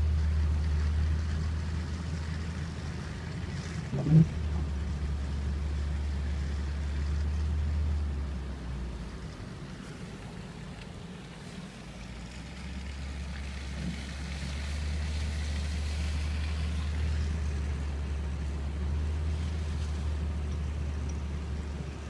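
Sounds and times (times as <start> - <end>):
car driving inside cabin: 0.0 - 22.0.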